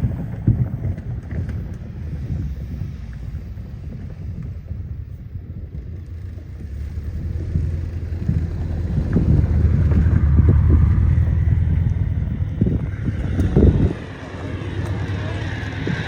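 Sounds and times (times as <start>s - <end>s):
train rumbling past: 0.0s - 16.0s
wind buffeting microphone: 0.0s - 16.0s.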